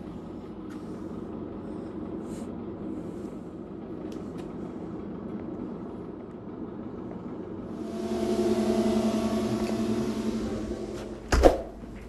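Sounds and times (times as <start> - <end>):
refrigerator compressor humming: 0.0 - 12.0.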